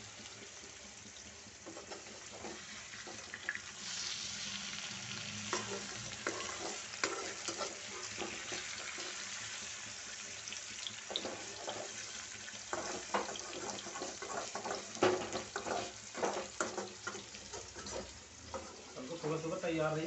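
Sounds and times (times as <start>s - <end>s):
chicken sizzling in hot oil: 0.0s - 20.0s
metal spatula scraping a pan: 1.6s - 9.8s, 11.1s - 19.4s.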